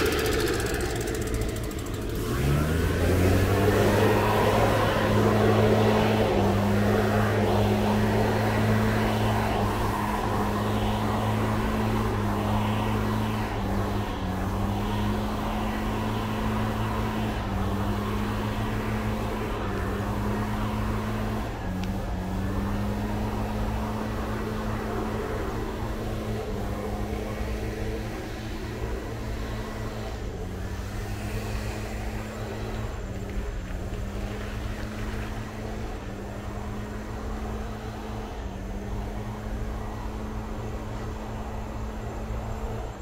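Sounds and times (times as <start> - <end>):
engine droning: 0.0 - 43.0.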